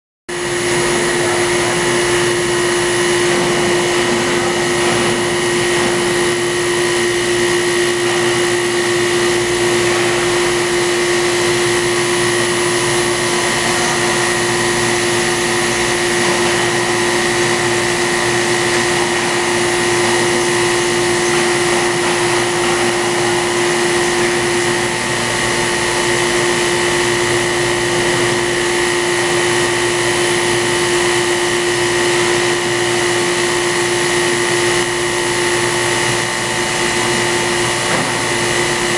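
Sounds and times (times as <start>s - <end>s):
grinding machine whining: 0.3s - 38.9s
machine hum: 0.3s - 38.9s.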